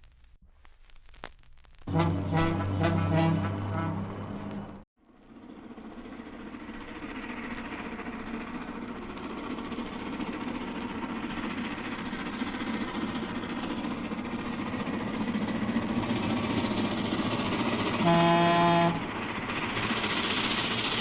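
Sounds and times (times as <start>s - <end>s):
train rumbling and hissing: 1.9s - 21.0s.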